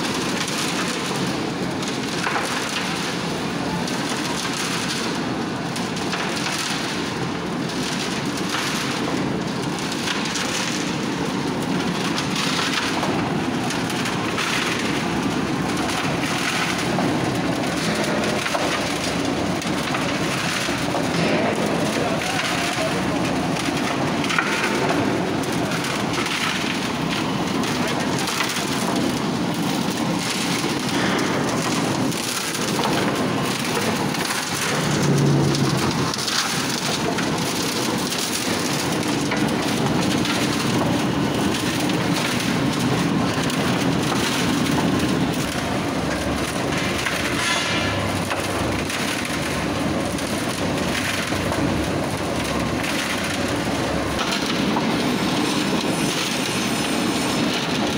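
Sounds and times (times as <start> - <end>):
concrete mixer drum churning: 0.0 - 57.9.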